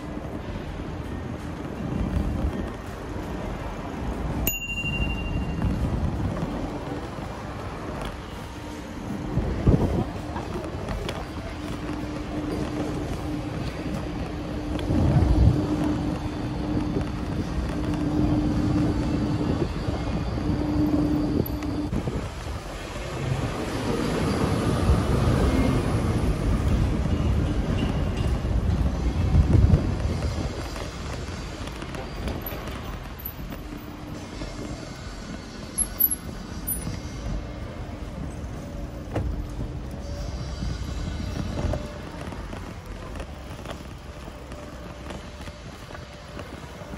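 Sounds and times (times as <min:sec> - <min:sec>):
street traffic noise: 0:00.0 - 0:46.9
wind on microphone: 0:00.0 - 0:46.9.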